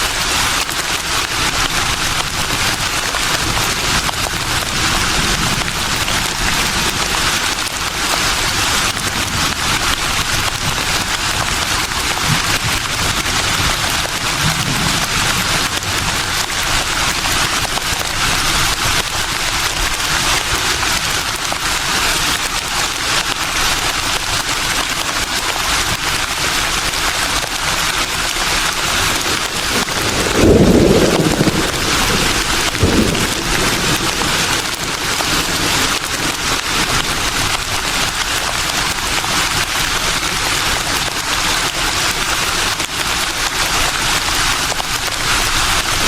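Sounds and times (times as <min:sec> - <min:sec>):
leaves rustling in breeze: 0:00.0 - 0:46.0.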